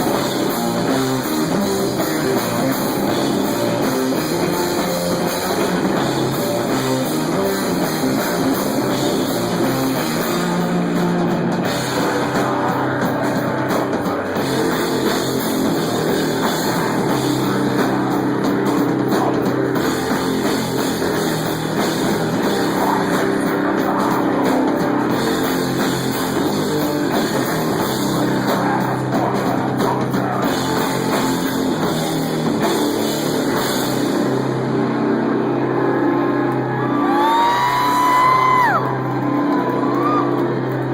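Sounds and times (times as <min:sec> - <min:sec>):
drum kit: 0:00.0 - 0:40.9
electric guitar: 0:00.0 - 0:40.9.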